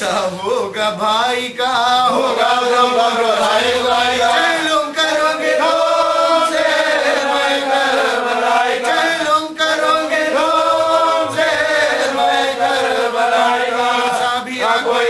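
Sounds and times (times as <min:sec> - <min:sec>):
man chanting unaccompanied: 0:00.0 - 0:15.0.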